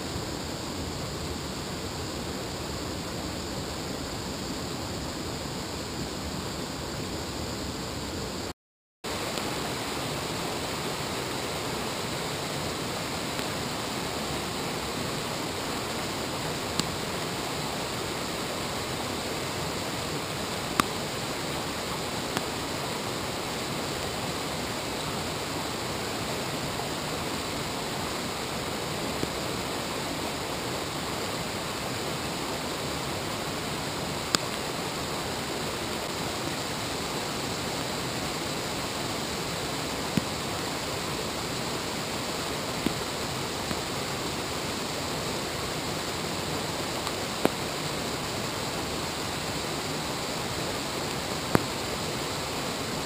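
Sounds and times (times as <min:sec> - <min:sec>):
waterfall rushing over rocks: 0:00.0 - 0:08.5, 0:09.1 - 0:53.0.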